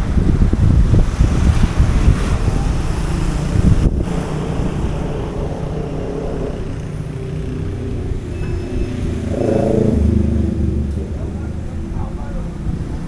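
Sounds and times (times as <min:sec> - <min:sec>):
wind buffeting microphone: 0:00.0 - 0:13.0
vehicle engine running: 0:00.1 - 0:13.0.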